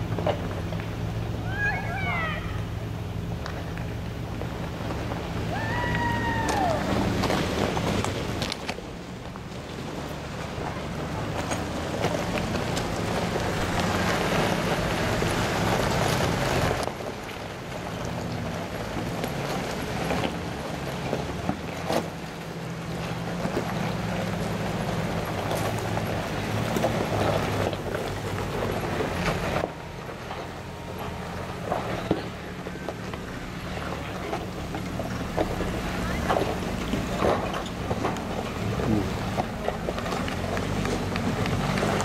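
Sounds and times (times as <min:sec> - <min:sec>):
off-road engines running: 0:00.0 - 0:42.0
tyres crunching on stones: 0:03.1 - 0:42.0.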